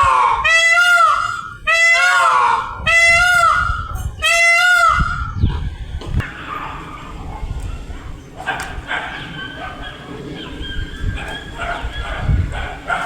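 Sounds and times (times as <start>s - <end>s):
peacock calling: 0.0s - 13.0s.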